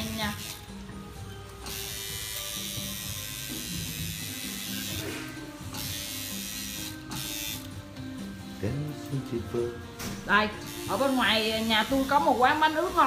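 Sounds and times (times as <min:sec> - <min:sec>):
tattoo machine buzzing: 0:00.0 - 0:08.6, 0:10.6 - 0:13.0.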